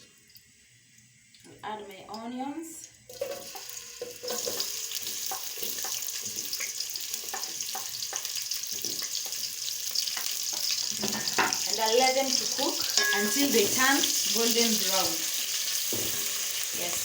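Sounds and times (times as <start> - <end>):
onions sizzling in oil: 3.0 - 17.0.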